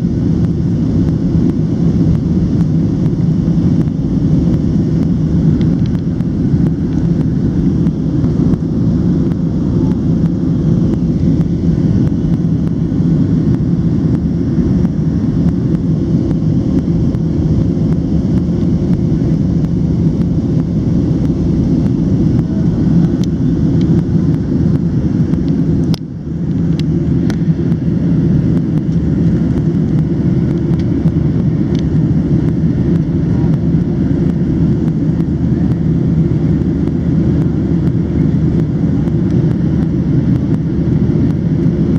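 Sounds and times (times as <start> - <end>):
airplane cabin engine rumble: 0.0 - 41.9.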